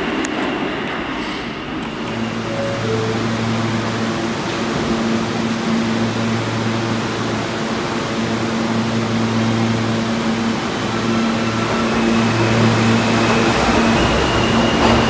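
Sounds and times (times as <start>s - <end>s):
subway train air conditioning rushing: 0.0s - 15.0s.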